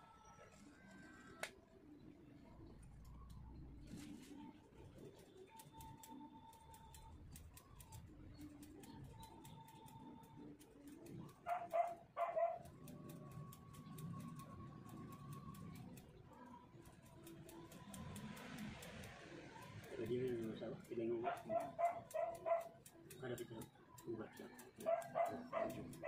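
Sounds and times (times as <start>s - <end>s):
scissors snipping hair: 5.0s - 26.0s.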